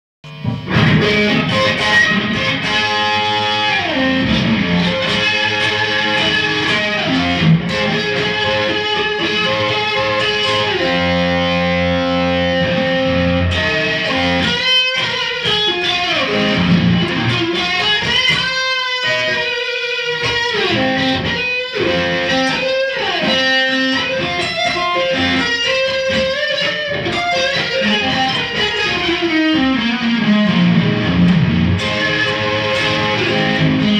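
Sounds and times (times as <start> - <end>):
electric guitar sliding notes: 0.3 - 33.9.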